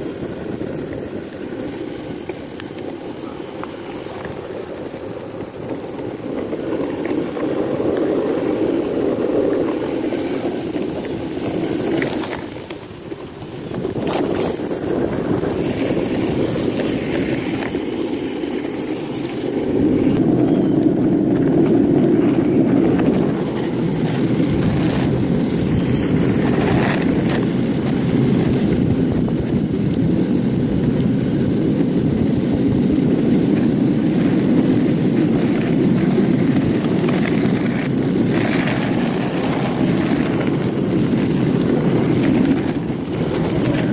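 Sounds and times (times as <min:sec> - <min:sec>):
longboard wheels rolling over asphalt: 0:00.0 - 0:43.9.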